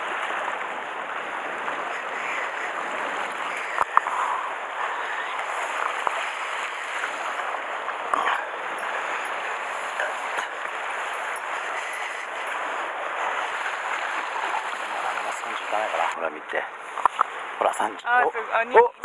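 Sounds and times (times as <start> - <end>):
sea water sloshing against rocks: 0.0 - 16.2.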